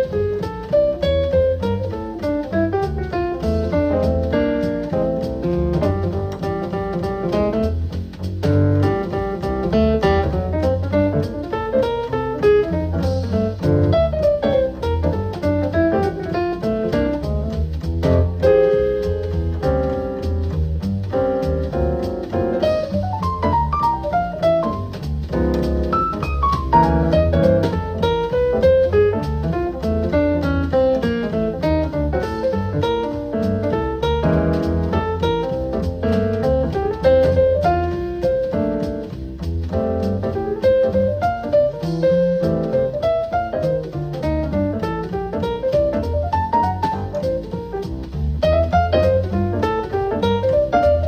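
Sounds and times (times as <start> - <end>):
jazz music through speaker: 0.0 - 51.0.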